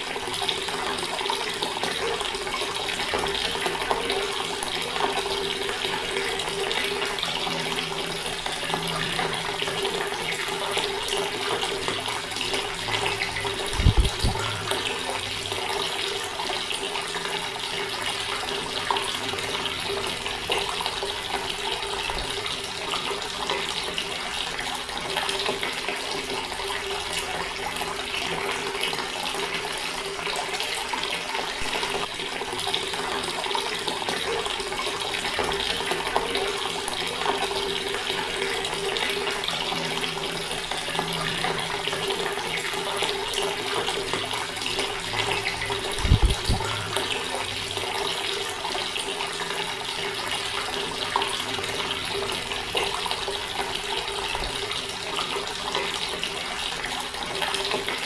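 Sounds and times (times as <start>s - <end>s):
water running from a tap: 0.0s - 58.0s.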